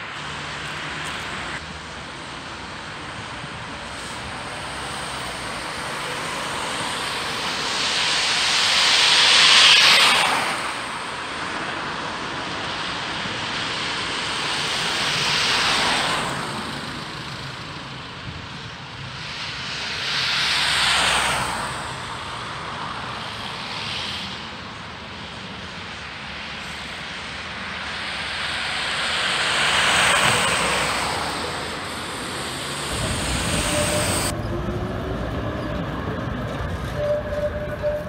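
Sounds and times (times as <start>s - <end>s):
vehicles passing by: 0.0s - 38.0s.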